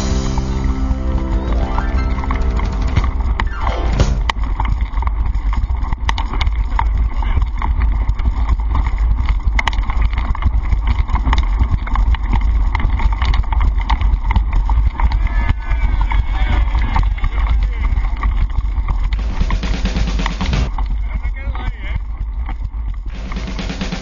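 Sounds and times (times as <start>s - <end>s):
wind and vibration rumble: 0.0s - 24.0s
bike rattling clicks and knocks: 2.2s - 24.0s.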